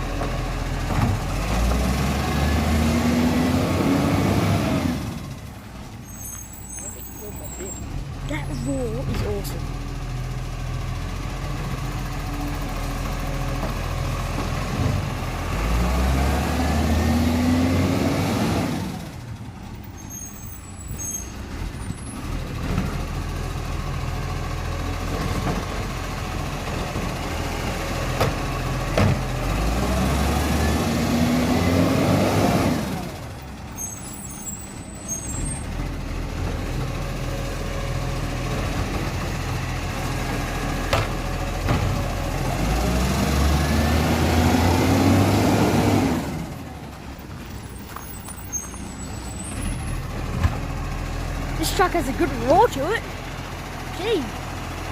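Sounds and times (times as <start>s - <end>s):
diesel truck engine revving: 0.0s - 54.9s.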